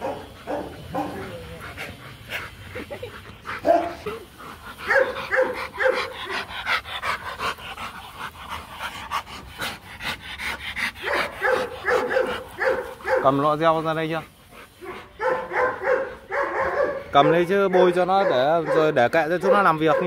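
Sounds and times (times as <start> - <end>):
dogs panting: 0.0 - 20.0.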